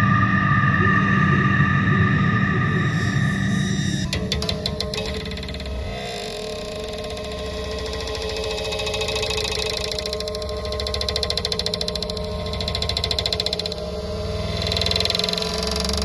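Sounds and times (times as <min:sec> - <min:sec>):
electronic drone with fluttering grains: 0:00.0 - 0:16.0.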